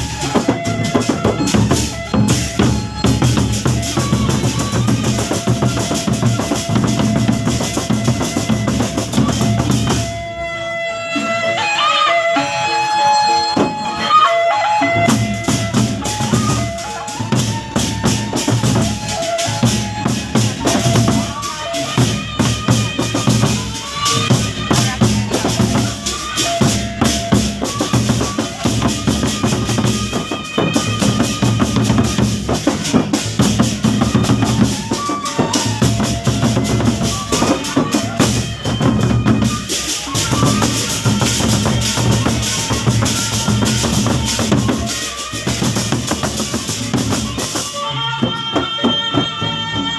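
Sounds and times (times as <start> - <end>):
large drums beaten fast: 0.0 - 10.3, 14.8 - 49.4.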